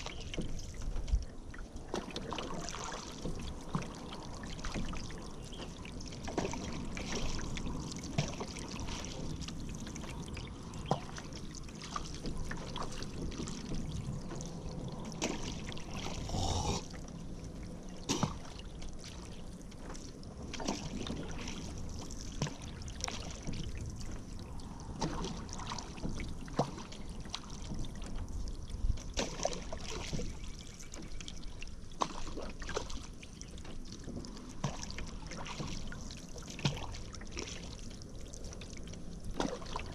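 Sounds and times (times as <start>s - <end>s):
paddle strokes in water: 0.0s - 39.9s.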